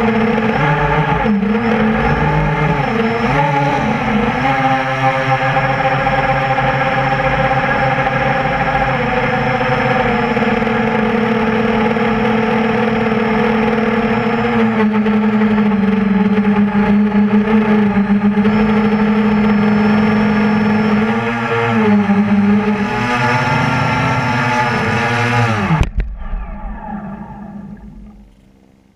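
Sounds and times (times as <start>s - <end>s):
quadcopter motors whining: 0.0s - 28.6s
motors spinning down: 0.0s - 28.8s.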